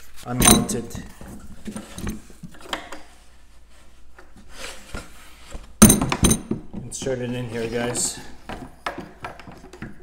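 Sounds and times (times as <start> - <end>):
faint rubbing of parts: 0.0 - 10.0.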